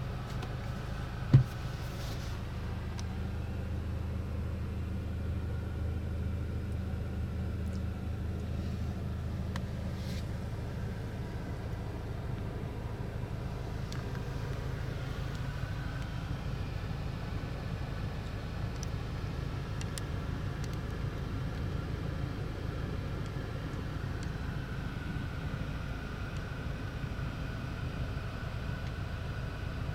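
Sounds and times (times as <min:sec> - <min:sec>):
low vehicle rumble: 0:00.0 - 0:29.9.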